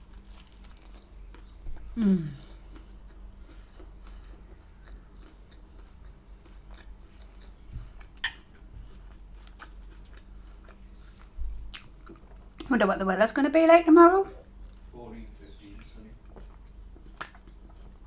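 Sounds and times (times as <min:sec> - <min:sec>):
person chewing food: 0:00.0 - 0:12.7, 0:14.4 - 0:14.9, 0:15.6 - 0:18.0.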